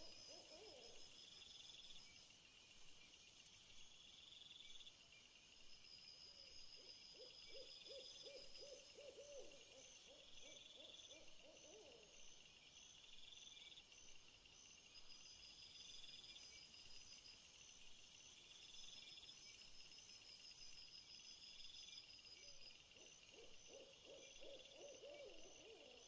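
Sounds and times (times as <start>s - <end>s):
insect chorus chirping: 0.0s - 26.0s.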